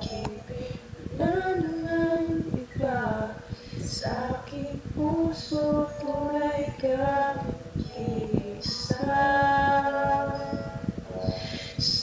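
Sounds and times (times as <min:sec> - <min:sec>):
woman singing slow melody: 0:00.0 - 0:12.0.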